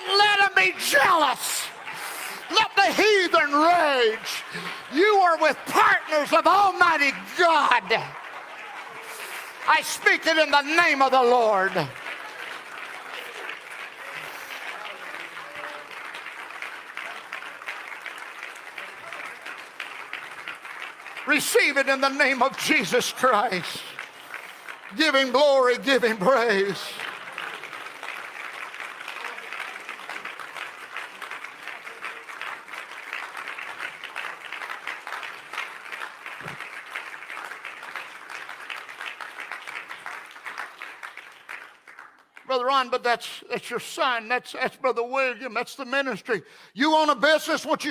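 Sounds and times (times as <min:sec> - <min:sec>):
crowd applauding: 0:00.0 - 0:44.2.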